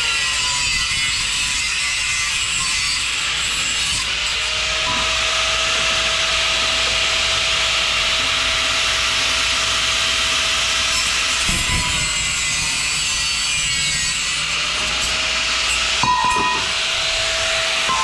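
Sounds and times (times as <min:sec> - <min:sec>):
power tool cutting metal tubing: 0:00.0 - 0:18.0.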